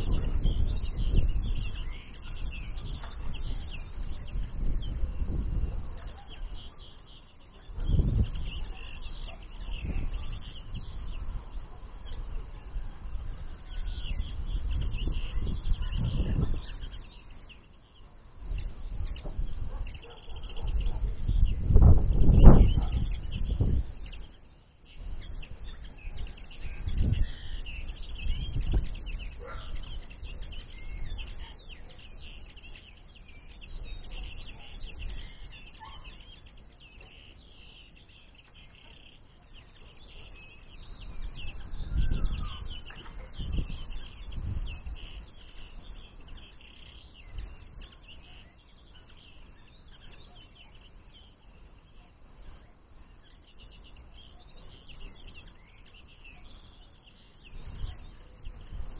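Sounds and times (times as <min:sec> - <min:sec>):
small songbirds chirping: 0:00.0 - 0:58.9.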